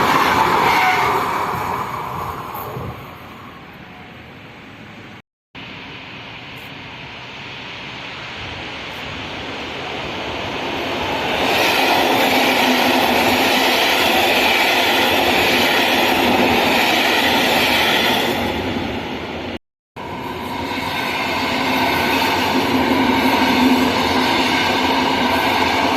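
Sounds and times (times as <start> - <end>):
train passing: 0.0 - 25.9
wheels rushing on rail: 0.0 - 25.9.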